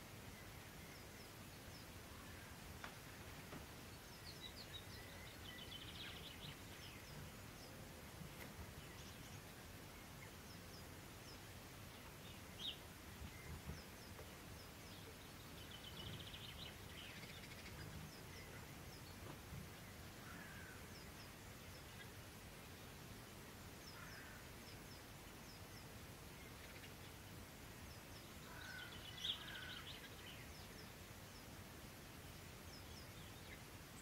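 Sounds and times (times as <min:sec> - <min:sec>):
outdoor background hiss: 0:00.0 - 0:34.0.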